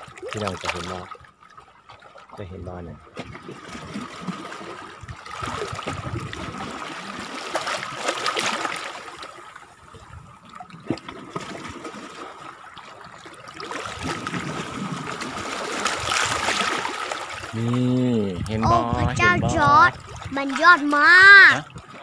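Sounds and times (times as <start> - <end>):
seawater lapping among rocks: 0.0 - 22.0.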